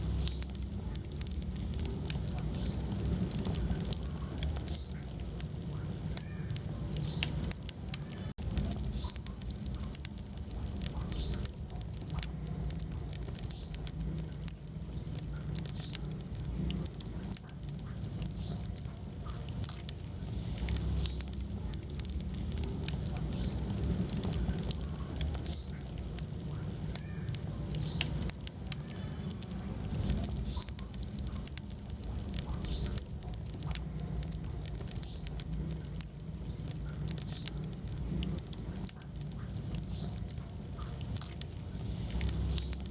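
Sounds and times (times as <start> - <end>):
low rumble of flame: 0.0 - 42.9
wood fire crackling and popping: 0.0 - 42.9.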